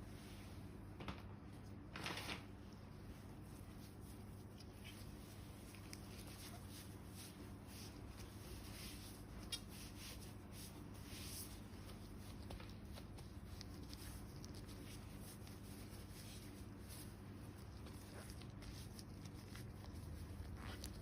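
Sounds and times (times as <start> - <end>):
low steady hum: 0.0 - 21.0
dry rustling and scratching: 2.0 - 21.0.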